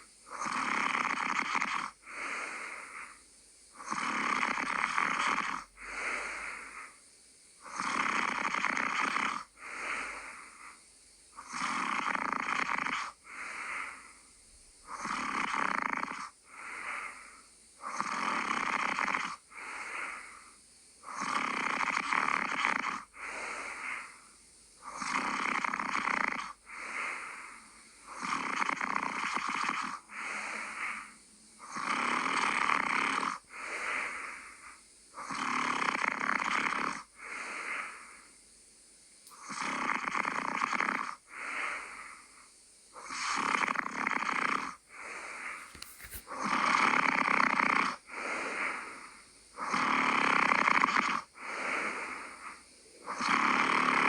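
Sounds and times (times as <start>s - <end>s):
person snoring: 0.0s - 3.2s, 3.8s - 7.0s, 7.6s - 10.8s, 11.4s - 14.2s, 14.9s - 24.2s, 24.8s - 38.3s, 39.3s - 54.0s.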